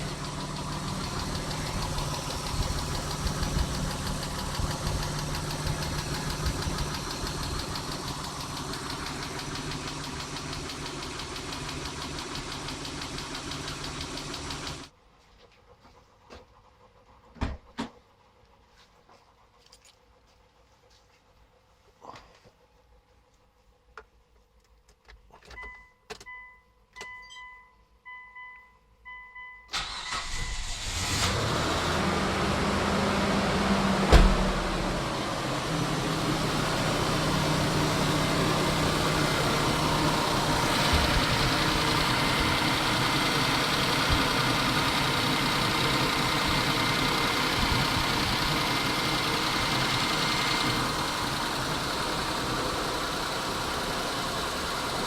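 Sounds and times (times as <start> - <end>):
car engine cranking and idling: 0.0 - 27.2, 29.7 - 55.0.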